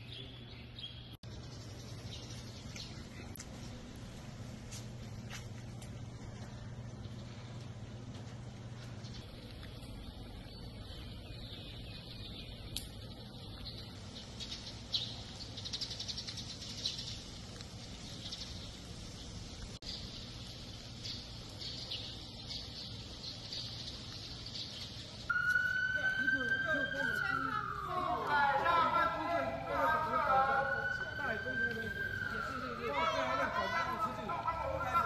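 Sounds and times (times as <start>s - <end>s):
birds chirping: 0.0s - 35.0s
low outdoor hum: 0.0s - 35.0s.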